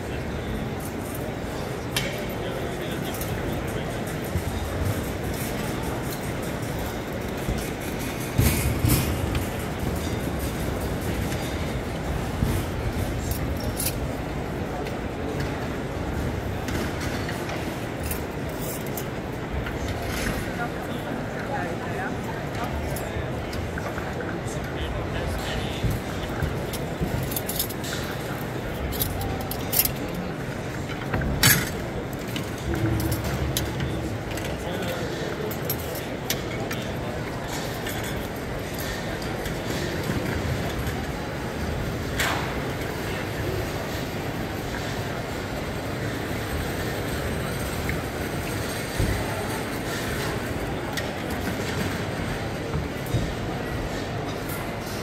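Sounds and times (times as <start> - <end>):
crowd chatter: 0.0 - 55.0.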